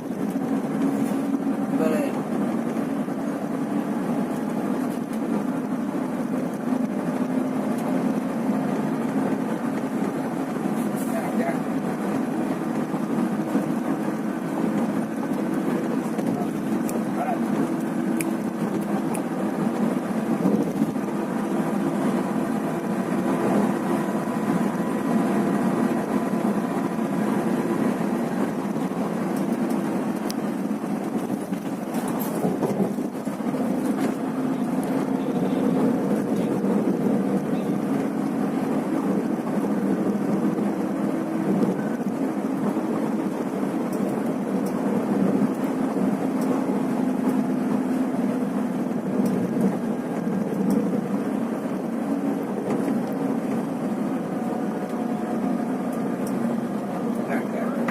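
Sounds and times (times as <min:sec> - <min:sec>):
coach engine drone: 0:00.0 - 0:57.9
road and wind noise: 0:00.0 - 0:57.9.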